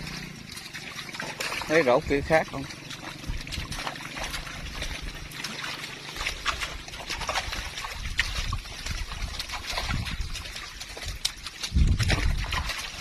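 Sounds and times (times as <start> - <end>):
prawns jumping against wet net: 0.0 - 13.0.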